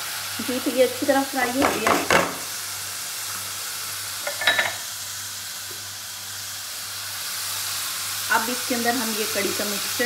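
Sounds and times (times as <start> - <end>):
masala sizzling in a pan: 0.0 - 10.0.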